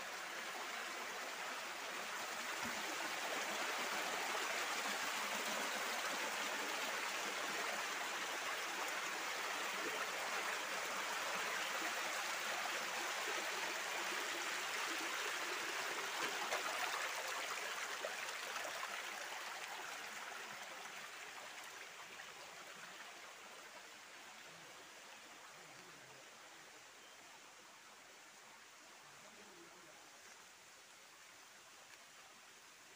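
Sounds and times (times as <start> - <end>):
stream rushing over rocks: 0.0 - 29.2.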